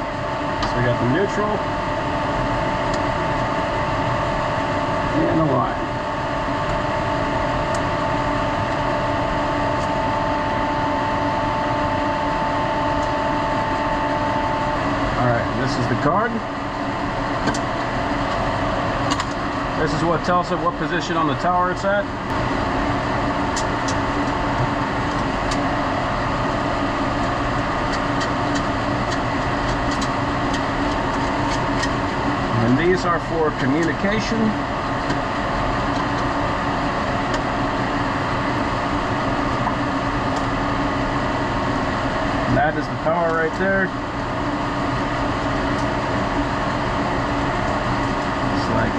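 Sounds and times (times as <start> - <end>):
constant whining tone: 0.0 - 48.9
machinery and ventilation drone: 0.0 - 48.9.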